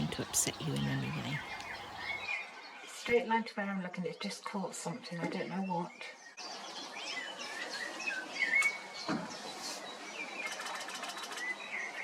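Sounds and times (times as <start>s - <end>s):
small birds singing and chirping: 0.0s - 3.2s, 3.9s - 12.0s.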